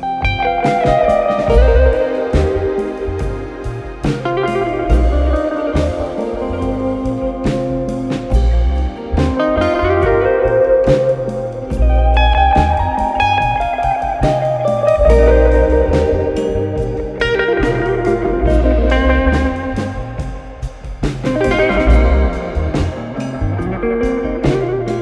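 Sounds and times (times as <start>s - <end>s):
instrumental guitar music with bass: 0.0s - 25.0s.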